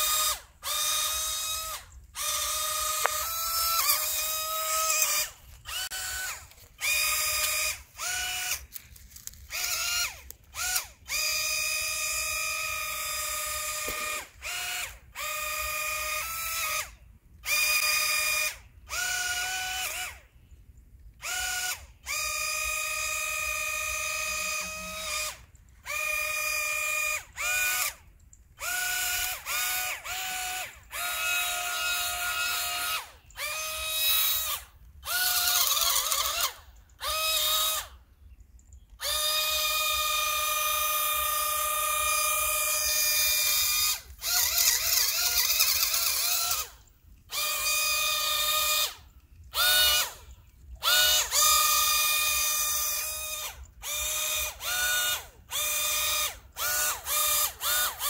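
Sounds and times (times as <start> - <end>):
small electric motors whining: 0.0 - 20.4, 21.1 - 38.1, 38.7 - 58.0.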